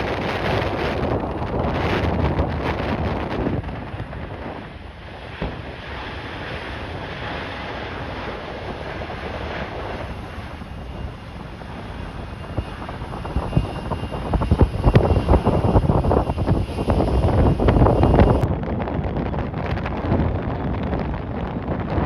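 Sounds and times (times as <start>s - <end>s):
low gusty thumps: 0.0s - 22.0s
steady rushing noise: 0.0s - 22.0s
wind buffeting microphone: 0.0s - 22.0s.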